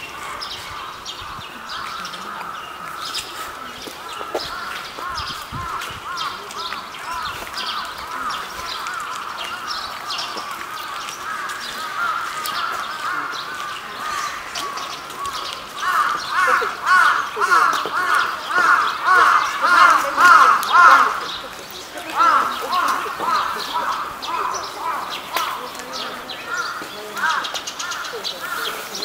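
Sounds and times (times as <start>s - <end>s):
birds calling: 0.0s - 29.0s.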